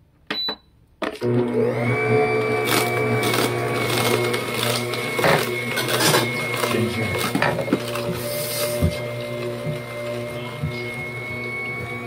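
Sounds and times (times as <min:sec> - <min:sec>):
juicer motor hum: 0:01.2 - 0:12.0.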